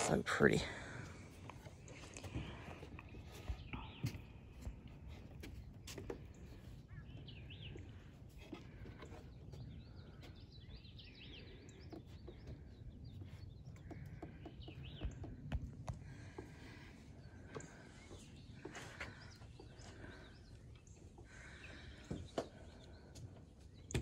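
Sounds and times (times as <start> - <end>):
birds chirping and singing: 0.1 - 24.0
footsteps on wooden boardwalk: 0.8 - 24.0.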